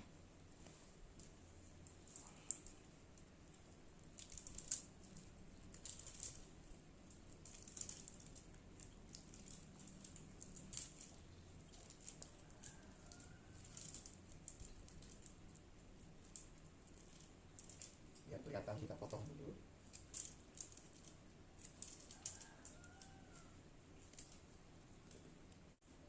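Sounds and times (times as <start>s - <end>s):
bamboo sticks rustling and clicking: 0.0s - 26.0s.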